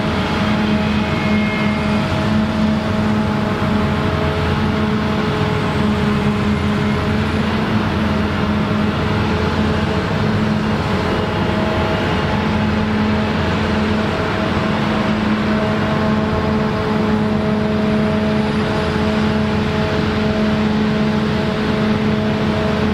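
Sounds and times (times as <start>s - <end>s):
combine harvester engine drone: 0.0s - 22.9s
threshing machinery noise: 0.0s - 22.9s.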